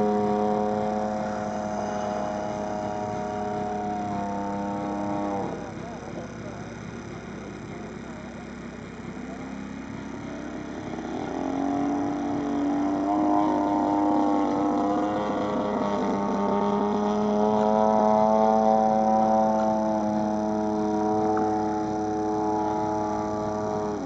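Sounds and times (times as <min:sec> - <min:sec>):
model airplane engine and propeller: 0:00.0 - 0:24.0.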